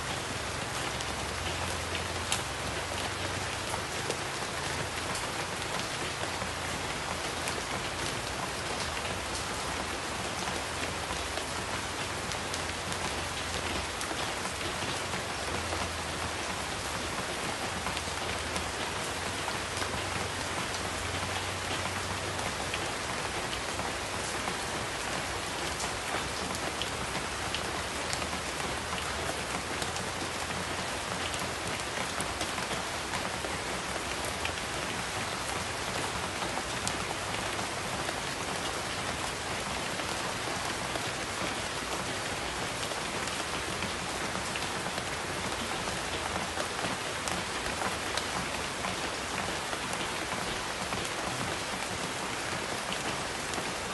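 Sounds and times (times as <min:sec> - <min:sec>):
rain falling on leaves: 0:00.0 - 0:53.9.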